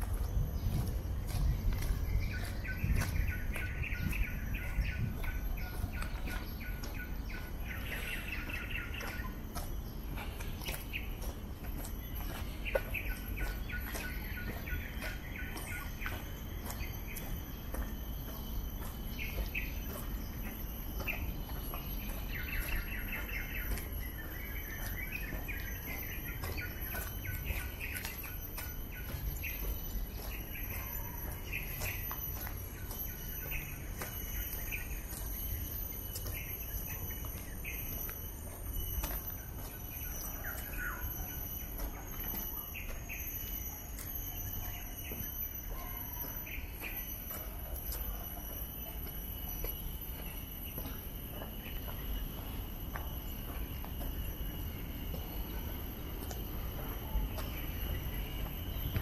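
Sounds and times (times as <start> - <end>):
birds chirping and singing: 0.0 - 59.0.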